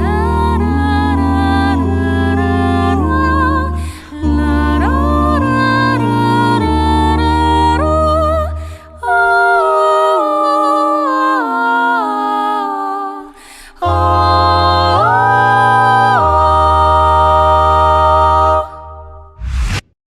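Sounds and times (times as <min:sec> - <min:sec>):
vocal group singing close harmony: 0:00.0 - 0:19.8.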